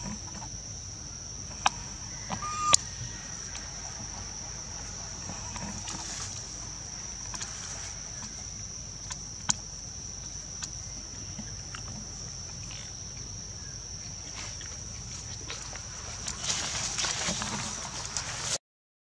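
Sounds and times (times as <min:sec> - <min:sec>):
insects droning: 0:00.0 - 0:18.6.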